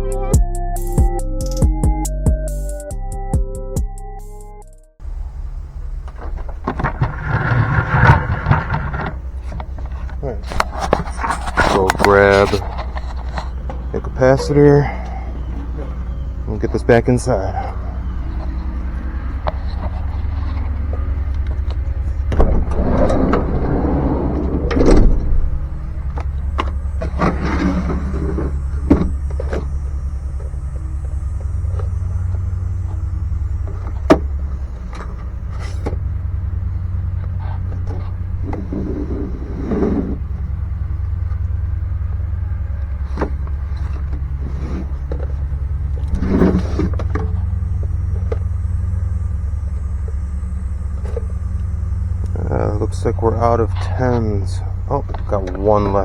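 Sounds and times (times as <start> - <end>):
parts and tools clattering: 5.0 - 41.8, 42.8 - 48.6, 52.4 - 56.0
steady low hum: 5.0 - 56.0.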